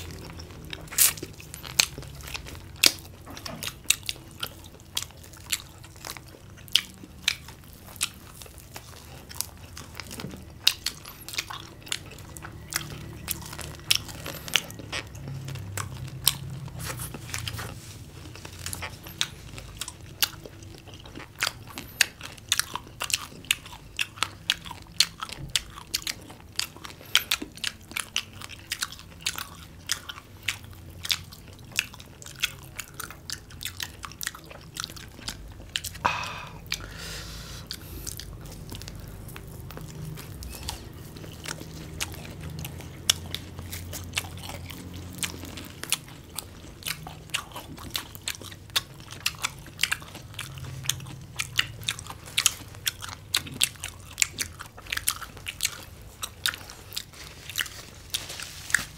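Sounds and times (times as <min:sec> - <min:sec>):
people crunching fried chicken: 0:00.0 - 0:58.9.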